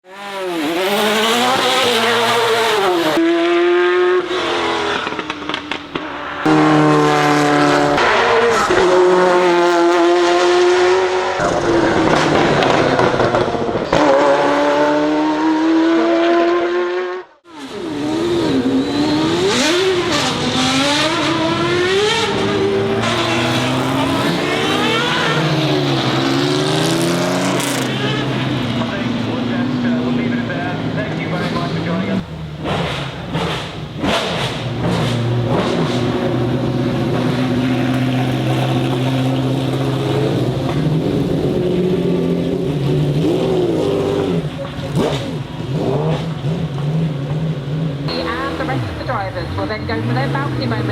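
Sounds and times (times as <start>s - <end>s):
car engine accelerating hard: 0.1s - 50.9s.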